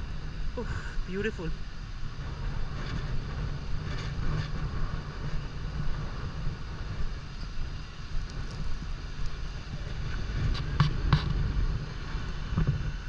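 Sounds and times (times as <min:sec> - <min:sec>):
distant waterfall roar: 0:00.0 - 0:13.0
wind buffeting microphone: 0:00.0 - 0:13.0.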